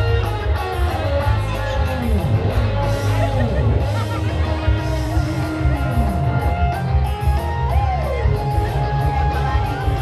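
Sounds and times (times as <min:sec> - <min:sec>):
loud band music: 0:00.0 - 0:10.0.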